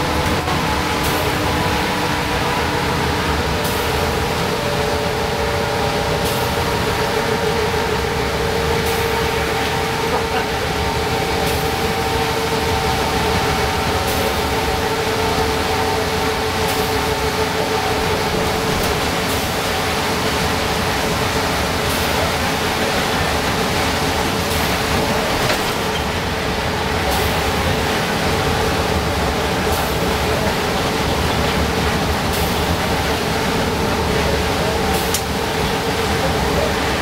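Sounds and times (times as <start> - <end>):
bus diesel engine droning: 0.0 - 37.0.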